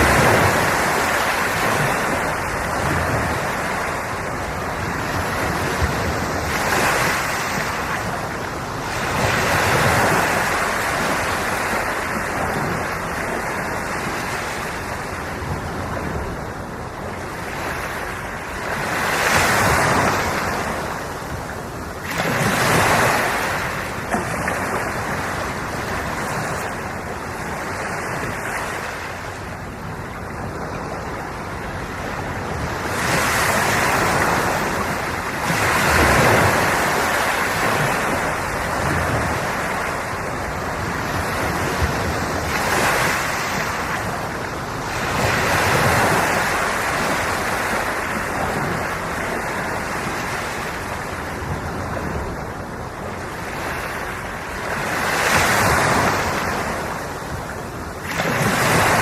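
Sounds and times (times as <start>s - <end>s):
sea waves washing ashore: 0.0s - 59.0s.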